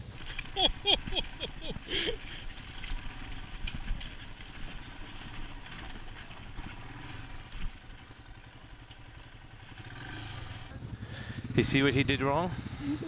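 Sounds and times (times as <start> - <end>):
motorcycle engine at low revs: 0.0 - 13.0
motorcycle clatter: 0.1 - 12.7.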